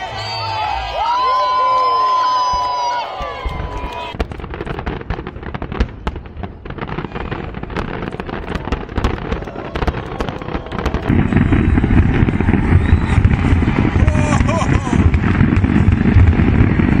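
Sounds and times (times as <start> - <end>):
fireworks crackling and banging: 0.2 - 17.0.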